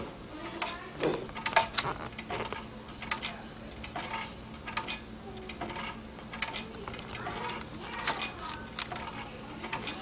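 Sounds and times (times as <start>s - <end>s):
cradle swing mechanism ticking: 0.0s - 10.0s.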